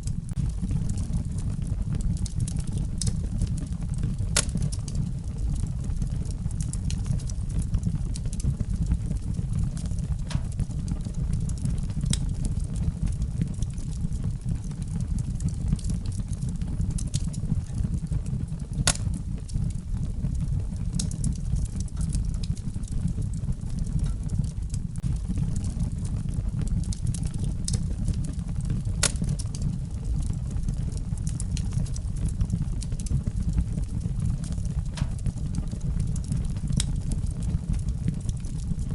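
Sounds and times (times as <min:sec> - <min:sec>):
fire crackles and pops: 0:00.0 - 0:38.9
fire flames rumbling: 0:00.0 - 0:38.9.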